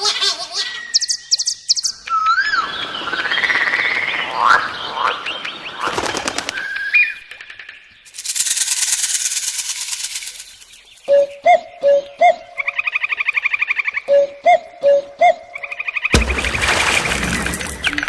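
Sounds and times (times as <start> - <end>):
birds chirping: 0.0 - 8.1, 10.2 - 18.0.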